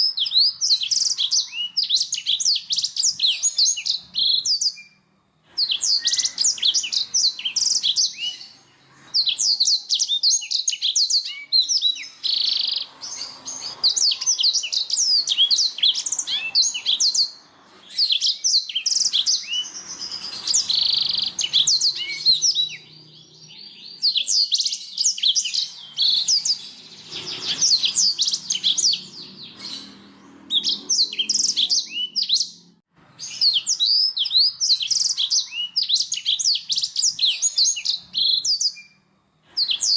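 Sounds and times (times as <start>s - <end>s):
canary trilling and chirping: 0.0s - 39.9s.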